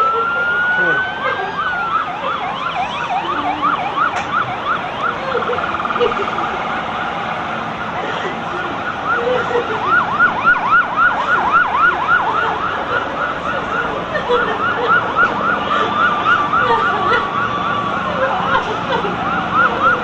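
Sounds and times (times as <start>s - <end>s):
siren yelping: 0.0s - 20.0s
steady siren tone: 0.0s - 20.0s.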